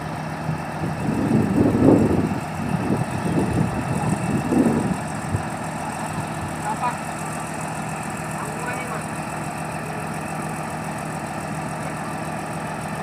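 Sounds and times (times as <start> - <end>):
bulldozer diesel engine idling: 0.0 - 13.0.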